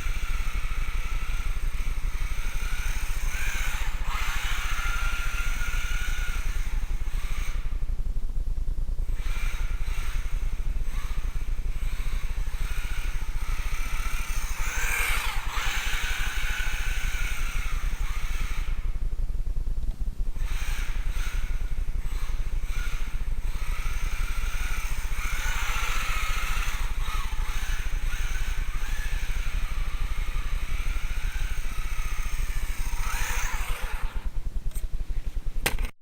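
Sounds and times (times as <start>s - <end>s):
rc car motor whine: 0.0s - 8.1s, 9.0s - 19.2s, 20.3s - 35.9s.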